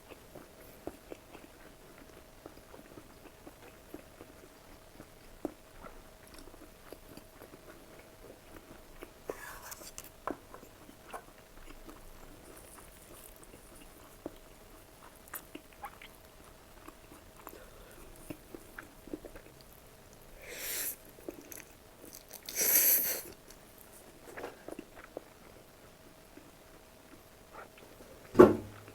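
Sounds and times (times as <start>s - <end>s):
quiet chewing: 0.1s - 28.2s.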